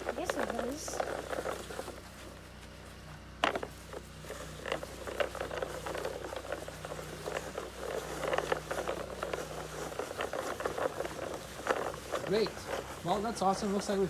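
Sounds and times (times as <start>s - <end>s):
toy lawn mower clicks and rattles: 0.0s - 2.0s, 3.4s - 14.0s.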